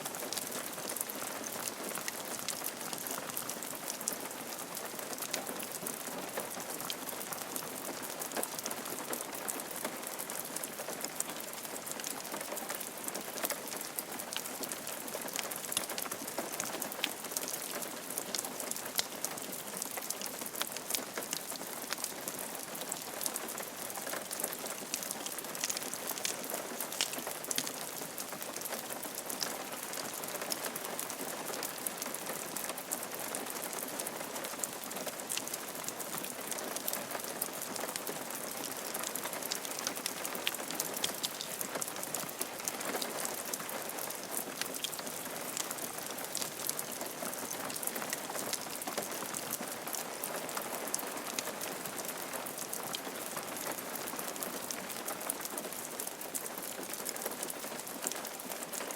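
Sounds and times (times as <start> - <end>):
rain on a roof: 0.0 - 58.9.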